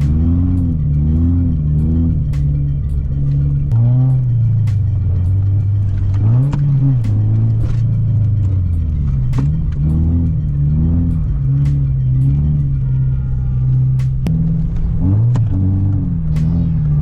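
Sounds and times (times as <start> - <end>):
car engine revving: 0.0 - 17.0
sharp engine clicks: 0.0 - 17.0.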